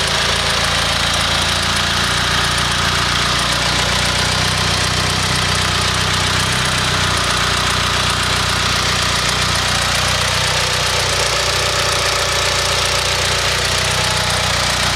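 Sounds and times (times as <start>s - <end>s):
car engine running: 0.0s - 14.9s
fast even engine knock: 0.0s - 14.9s.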